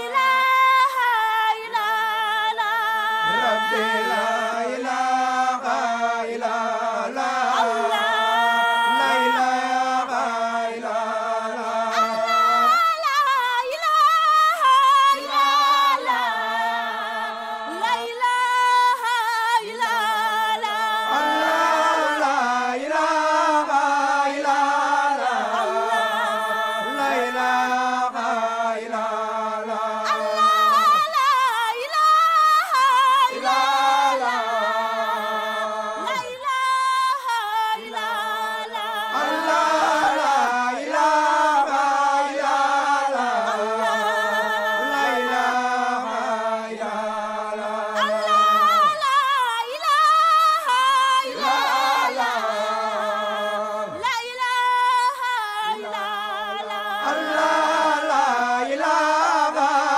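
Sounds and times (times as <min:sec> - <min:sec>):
male vocal group chanting: 0:00.0 - 0:59.9.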